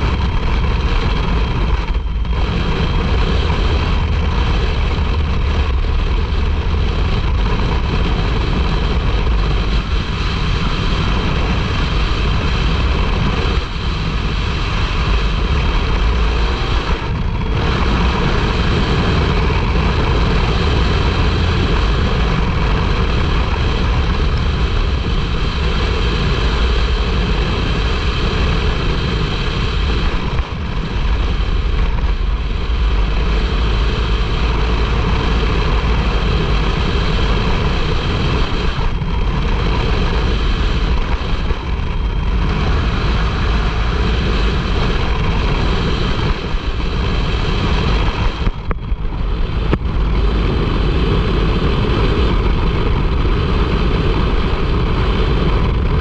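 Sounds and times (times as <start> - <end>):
vehicle engine drone: 0.0 - 56.0
wind: 0.0 - 56.0.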